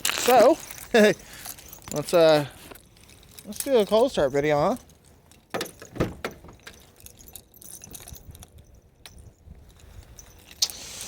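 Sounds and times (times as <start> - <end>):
car keys jangling: 0.0 - 10.7
clicks and knocks of handling keys: 0.2 - 10.6.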